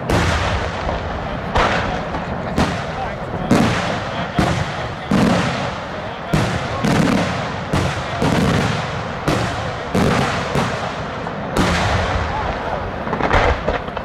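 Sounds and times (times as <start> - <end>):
firework shells bursting: 0.0 - 14.0
rolling rumble: 0.0 - 14.0.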